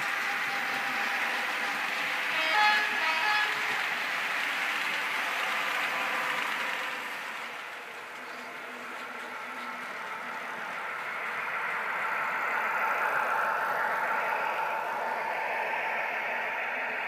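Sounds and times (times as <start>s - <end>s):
diesel engine sound effect: 0.0s - 17.0s
model train rumbling on track: 0.0s - 17.0s.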